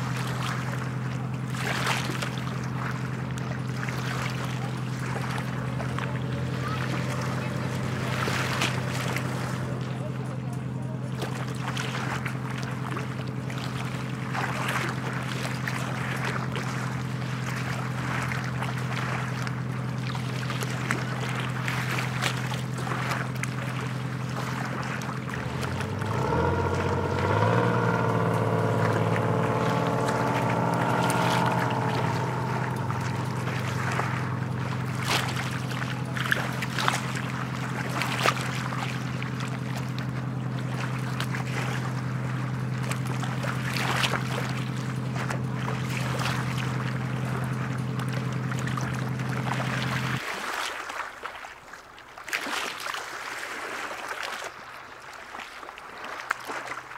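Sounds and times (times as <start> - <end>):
boat motor running: 0.0 - 50.4.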